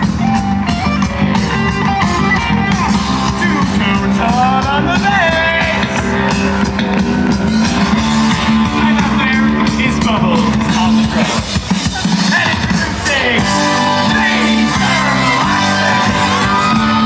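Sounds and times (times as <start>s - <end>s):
live rock band playing: 0.0s - 17.0s
person singing: 1.3s - 17.0s.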